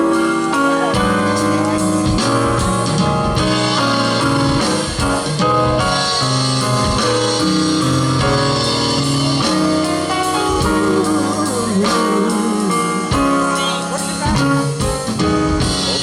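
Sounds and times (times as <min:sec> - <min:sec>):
bass line with steady beat: 0:00.0 - 0:16.0
gospel band playing: 0:00.0 - 0:16.0
lead guitar: 0:00.0 - 0:16.0.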